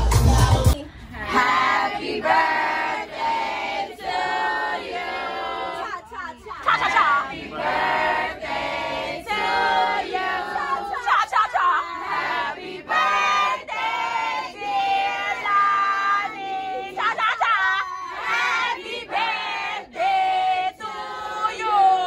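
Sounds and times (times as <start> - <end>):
group of people singing: 0.0 - 22.0.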